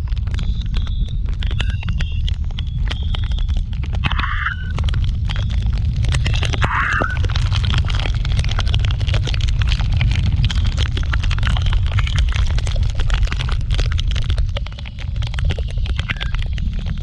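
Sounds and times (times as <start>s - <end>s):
raindrops ticking on microphone: 0.0s - 17.0s.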